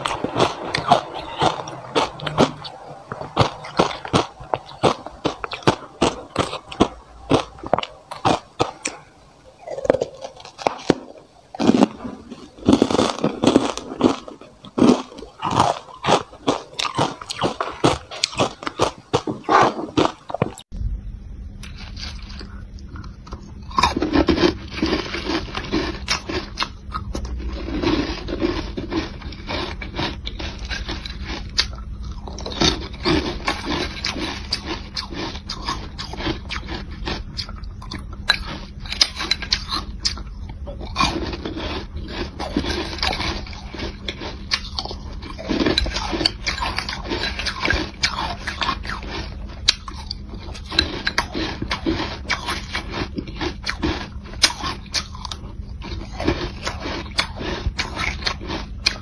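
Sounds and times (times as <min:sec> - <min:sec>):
ice cubes crunched in mouth: 0:00.0 - 0:09.0, 0:09.7 - 0:20.6, 0:23.7 - 0:40.2, 0:40.8 - 0:59.0
low steady hum: 0:00.0 - 0:59.0.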